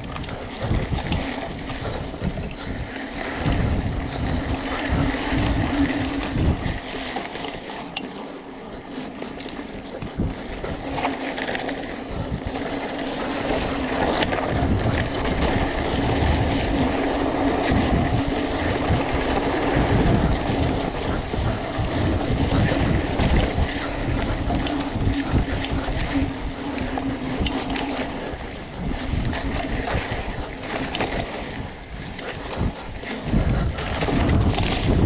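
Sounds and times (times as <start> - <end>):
bike tyres rolling over dirt: 0.0 - 35.0
wind on microphone: 0.0 - 35.0.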